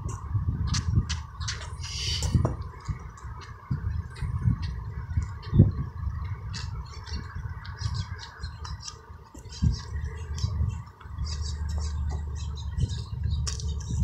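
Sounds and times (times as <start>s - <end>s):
birds chirping: 0.0s - 14.0s
freeway traffic rumble: 0.0s - 14.0s.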